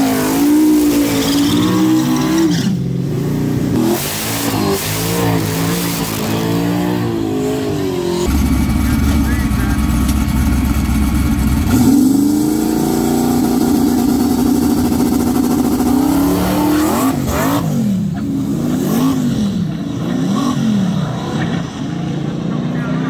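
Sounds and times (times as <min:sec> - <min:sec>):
drag car engine accelerating: 0:00.0 - 0:23.0.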